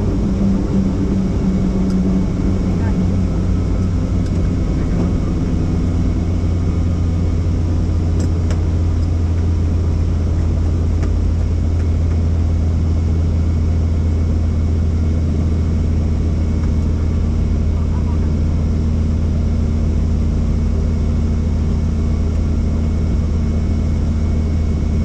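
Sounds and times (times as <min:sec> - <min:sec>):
helicopter rotor and engine drone: 0:00.0 - 0:25.0.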